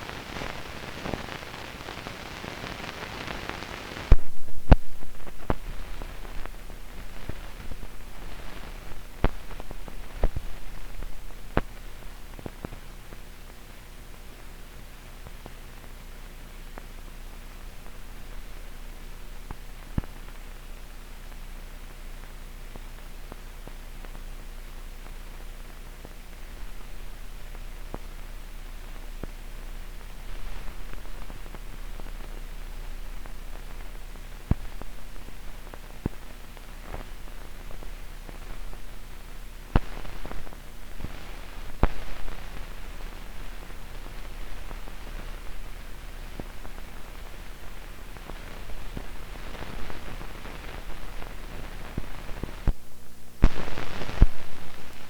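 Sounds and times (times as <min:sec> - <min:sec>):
crackles and pops: 0:00.0 - 0:55.0
faint hum: 0:00.0 - 0:55.0
film hiss: 0:00.0 - 0:55.0.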